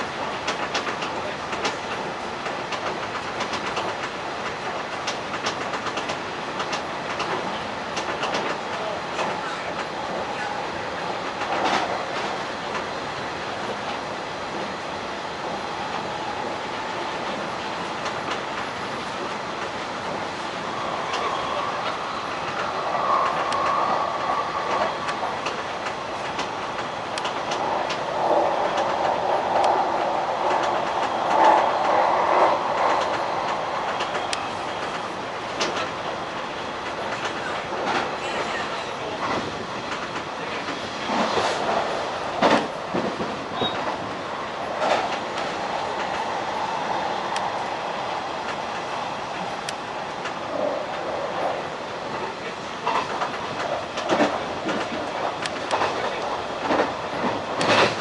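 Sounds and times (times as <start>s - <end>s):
rail joint clacks: 0.0s - 58.0s
train wheels rumbling on rail: 0.0s - 58.0s.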